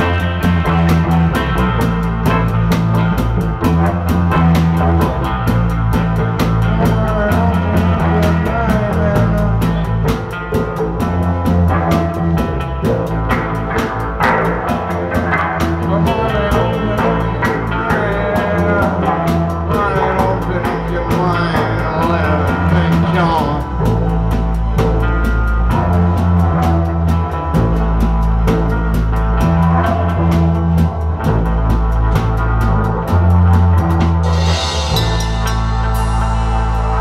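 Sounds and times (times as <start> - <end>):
bass: 0.0 - 37.0
drum kit: 0.0 - 37.0
electric guitar: 0.0 - 37.0.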